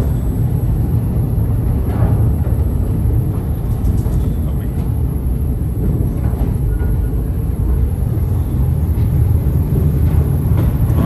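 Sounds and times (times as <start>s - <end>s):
electric train rumbling in tunnel: 0.0s - 11.0s.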